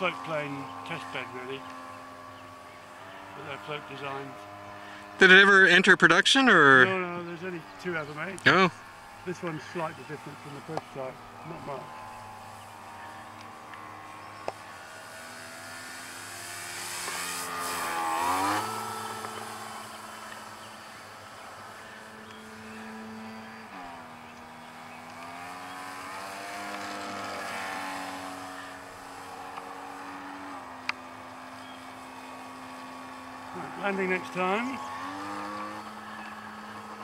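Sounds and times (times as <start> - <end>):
model plane electric motor whine: 0.0 - 5.6, 6.9 - 37.0.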